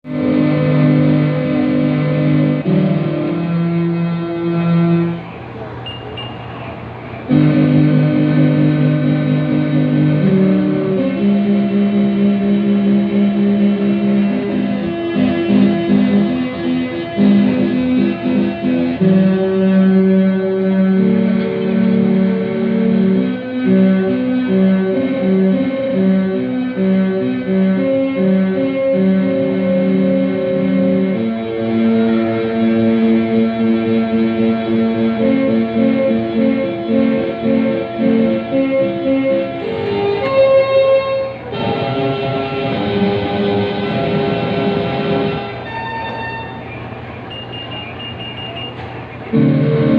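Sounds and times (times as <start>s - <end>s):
electronic keyboard melody: 0.0s - 6.5s, 7.1s - 49.9s.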